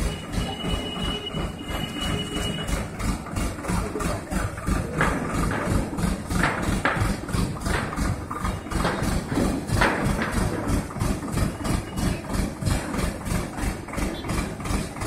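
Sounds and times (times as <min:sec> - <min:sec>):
diesel engine pulsing: 0:00.0 - 0:15.0.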